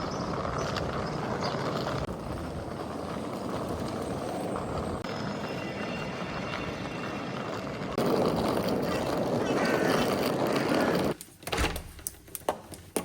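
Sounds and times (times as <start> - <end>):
street traffic noise: 0.0 - 11.2.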